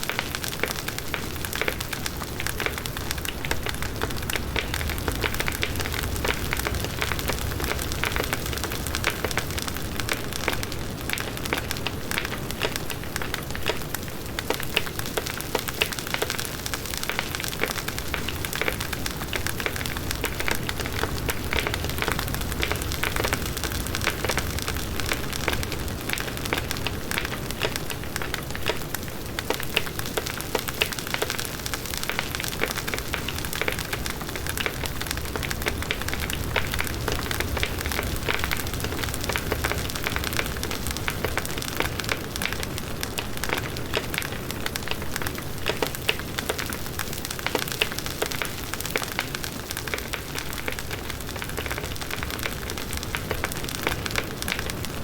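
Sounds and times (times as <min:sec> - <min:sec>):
bonfire wood crackling: 0:00.0 - 0:55.0.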